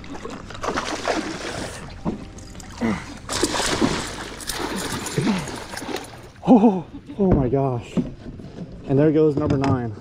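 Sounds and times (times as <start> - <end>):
water splashing and sloshing: 0.0 - 9.0.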